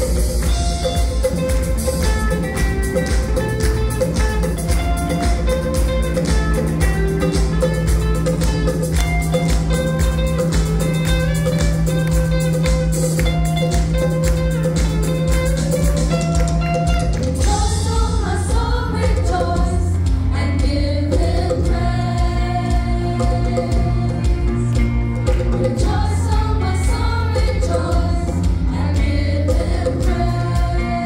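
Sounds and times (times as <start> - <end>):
steady drum beat: 0.0 - 31.0
upbeat song with guitar: 0.0 - 31.0.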